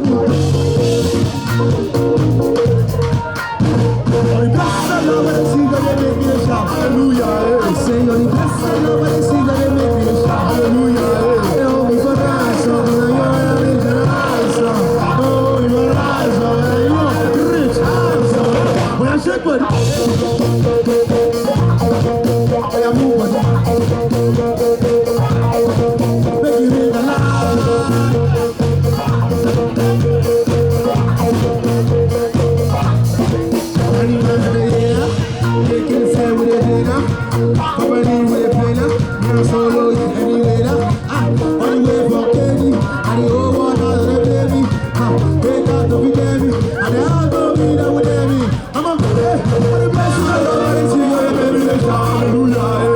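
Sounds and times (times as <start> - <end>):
live band music over pa: 0.0 - 52.9.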